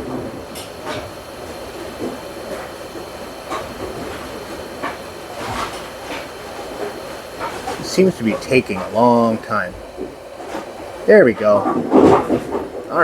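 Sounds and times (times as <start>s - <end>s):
hot air gun hissing: 0.0s - 13.0s.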